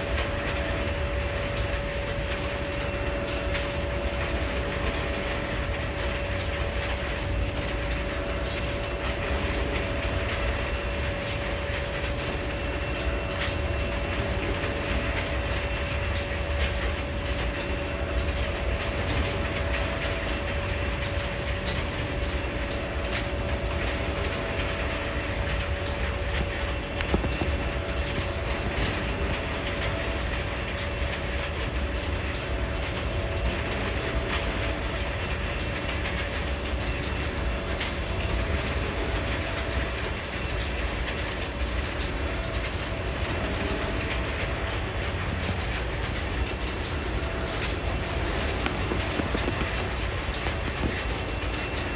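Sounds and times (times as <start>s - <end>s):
train cars rolling past: 0.0s - 51.9s
wheels clicking over rail joints: 0.0s - 51.9s.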